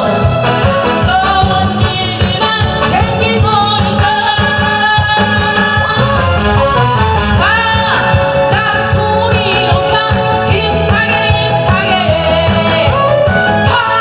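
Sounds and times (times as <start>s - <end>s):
backing track with steady beat: 0.0s - 14.0s
woman singing into a microphone: 0.0s - 14.0s.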